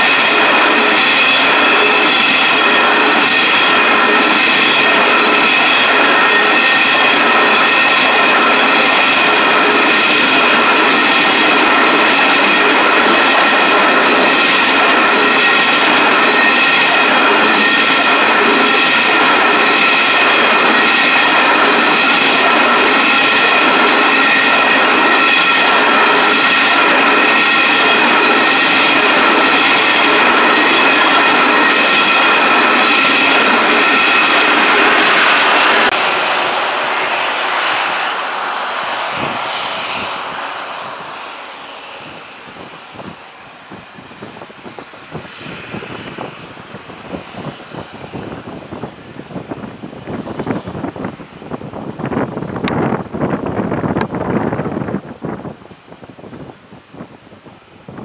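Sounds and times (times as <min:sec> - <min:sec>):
high-pitched whine: 0:00.0 - 0:51.2
wagon wheels rumbling on rail: 0:00.0 - 0:55.5.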